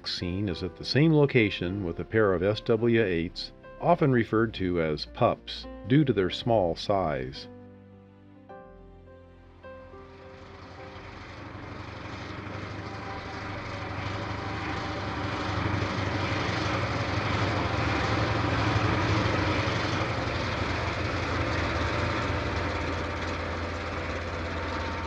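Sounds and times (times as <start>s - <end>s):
diesel locomotive engines droning: 0.0s - 5.7s, 9.8s - 25.0s.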